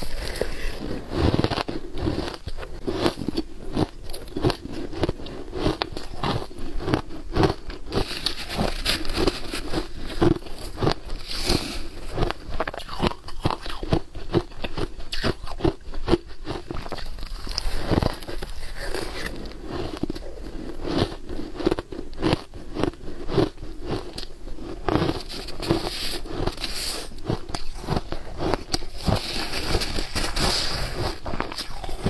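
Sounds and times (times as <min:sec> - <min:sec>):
chewing crunchy ice: 0:00.0 - 0:32.0.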